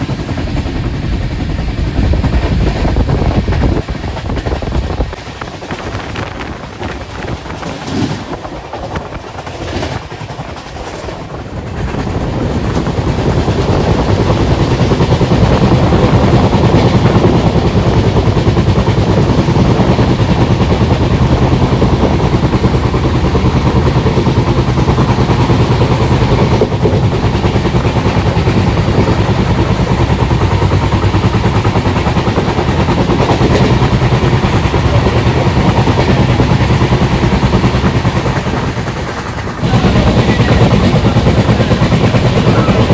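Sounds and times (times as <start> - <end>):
low diesel engine drone: 0.0 - 42.9
train running at speed: 0.0 - 42.9.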